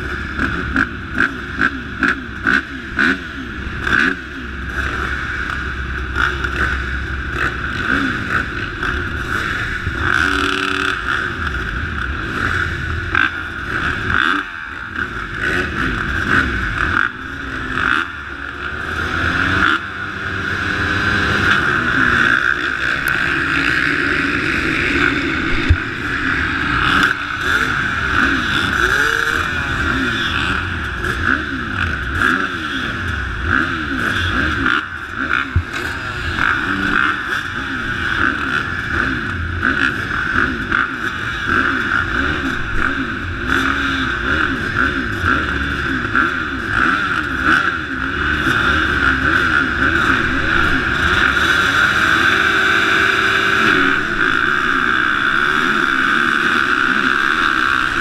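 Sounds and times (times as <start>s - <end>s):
motocross bikes idling and revving: 0.0s - 58.0s.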